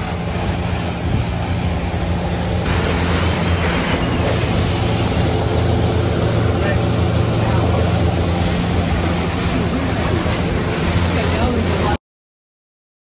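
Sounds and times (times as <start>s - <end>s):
motorboat engine drone: 0.0s - 12.0s
water rushing and churning: 0.0s - 12.0s.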